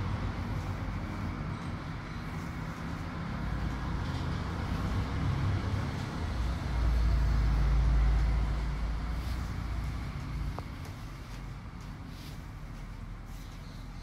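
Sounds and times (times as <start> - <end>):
passing motor vehicle rumble: 0.0 - 14.0.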